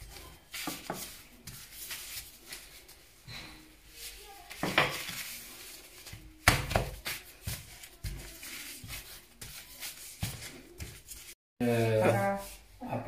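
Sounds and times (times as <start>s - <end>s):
hands patting and rubbing dough: 0.0s - 3.2s, 3.9s - 11.4s.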